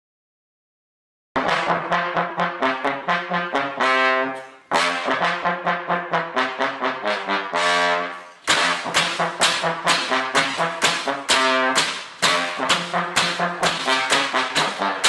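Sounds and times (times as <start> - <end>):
brass music short repeated notes: 1.4 - 15.0.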